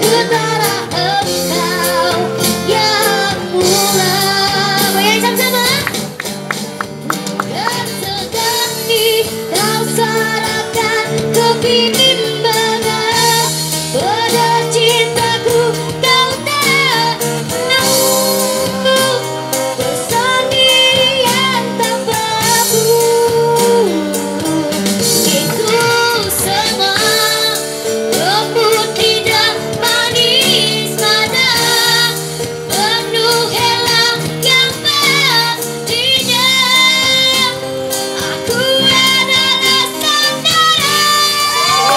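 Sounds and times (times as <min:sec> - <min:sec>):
girl singing through microphone: 0:00.0 - 0:05.9, 0:07.4 - 0:41.9
acoustic guitar: 0:00.0 - 0:41.9
electric guitar: 0:00.0 - 0:41.9
keyboard: 0:00.0 - 0:41.9.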